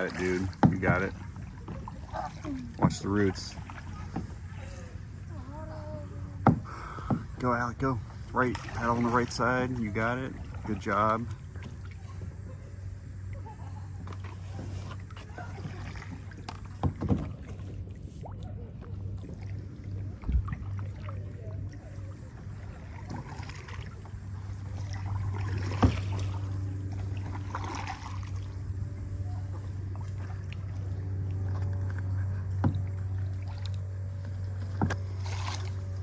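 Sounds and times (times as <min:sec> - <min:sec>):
paddle strokes in water: 0:00.0 - 0:36.0
steady low hum: 0:00.0 - 0:36.0.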